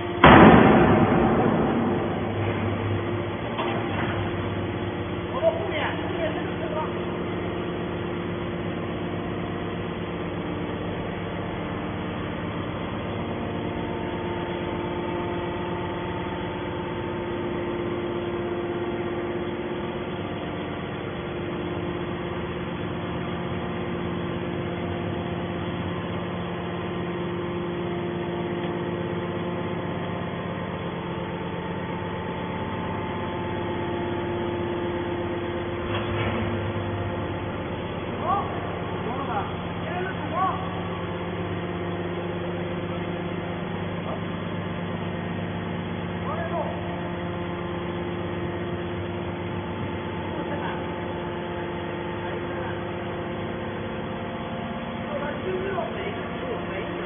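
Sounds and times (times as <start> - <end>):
hydraulic power unit humming: 0.0 - 57.0.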